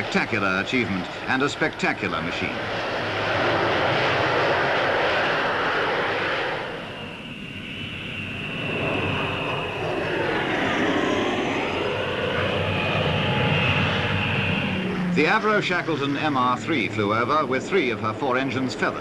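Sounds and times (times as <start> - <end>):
aircraft engine roar: 0.0 - 19.0
high steady whine: 0.0 - 19.0.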